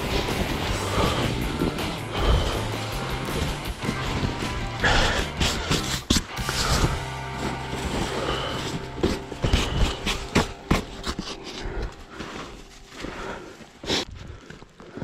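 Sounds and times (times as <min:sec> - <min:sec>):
fabric cover rustling: 0:00.0 - 0:14.8.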